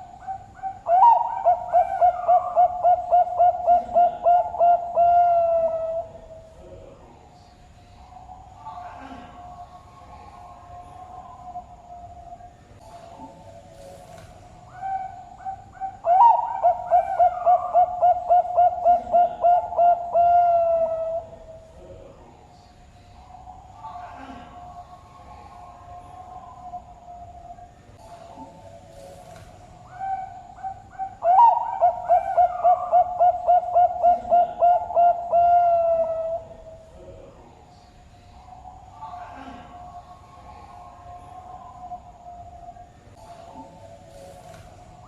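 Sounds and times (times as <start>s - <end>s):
dove cooing: 0.0s - 7.1s, 8.0s - 22.3s, 23.2s - 37.6s, 38.3s - 45.0s.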